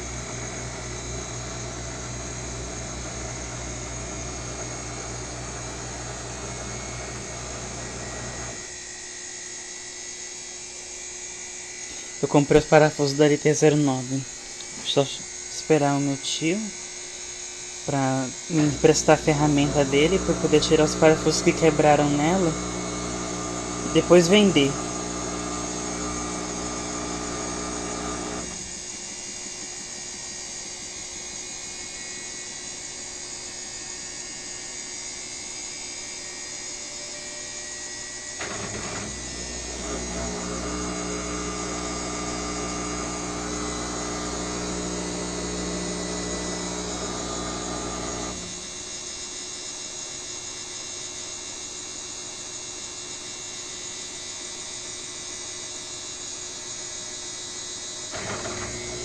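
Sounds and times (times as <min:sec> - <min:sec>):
washing machine motor whine: 0:00.0 - 0:59.0.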